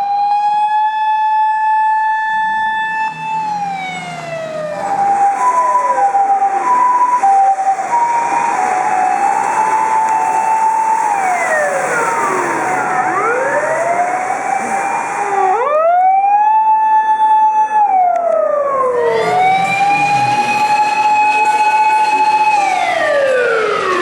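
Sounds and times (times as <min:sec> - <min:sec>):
emergency siren wailing: 0:00.0 - 0:24.0
second siren: 0:00.0 - 0:24.0.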